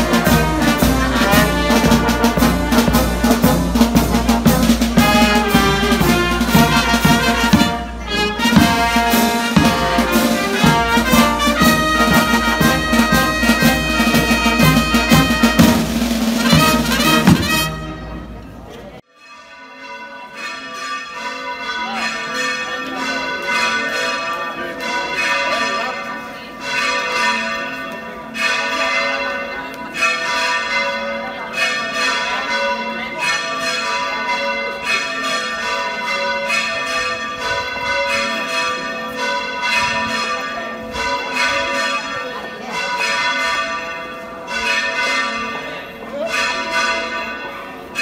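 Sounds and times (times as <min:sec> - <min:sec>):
church bells pealing: 0:00.0 - 0:48.0.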